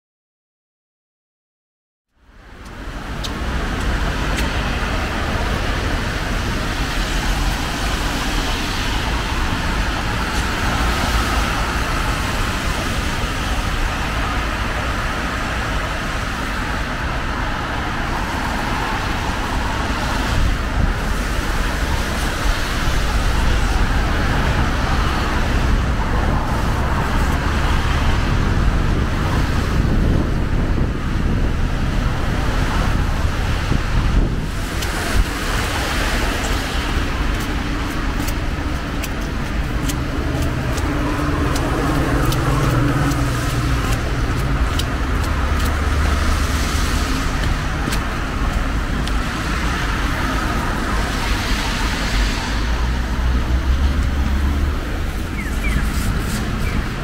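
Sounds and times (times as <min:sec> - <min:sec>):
cars driving on wet street: 0:02.1 - 0:57.0.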